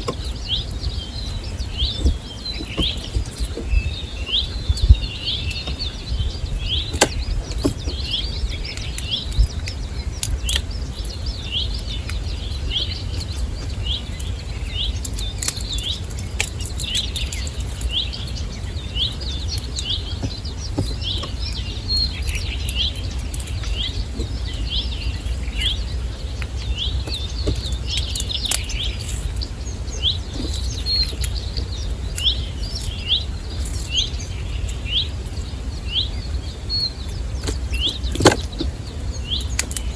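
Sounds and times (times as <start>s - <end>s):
small bird chirping: 0.0s - 39.9s
steady low rumble: 0.0s - 39.9s.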